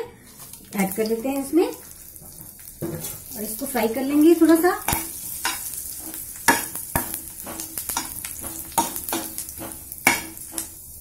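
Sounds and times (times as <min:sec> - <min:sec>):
spices sizzling in hot oil: 0:00.2 - 0:11.0.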